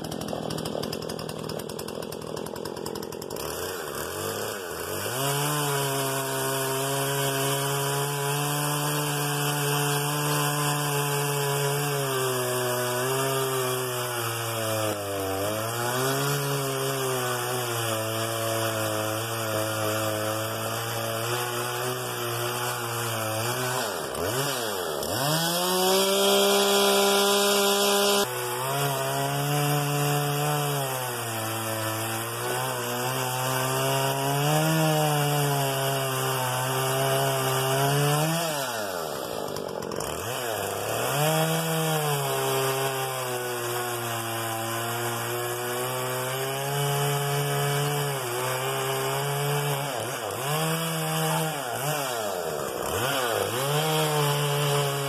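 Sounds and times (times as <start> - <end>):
chainsaw cutting logs: 0.0 - 55.0.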